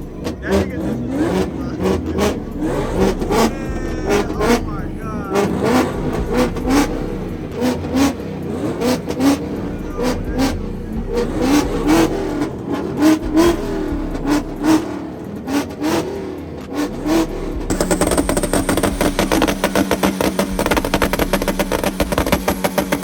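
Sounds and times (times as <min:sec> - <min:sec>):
car engine revving hard: 0:00.0 - 0:23.0
sharp exhaust cracks: 0:00.0 - 0:23.0.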